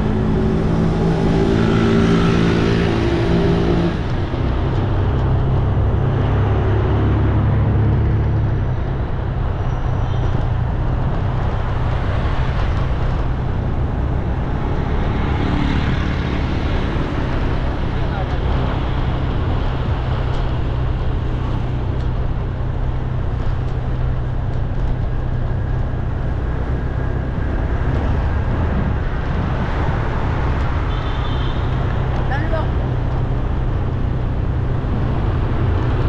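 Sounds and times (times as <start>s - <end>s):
road noise: 0.0s - 36.0s
vehicle engines passing: 0.0s - 36.0s.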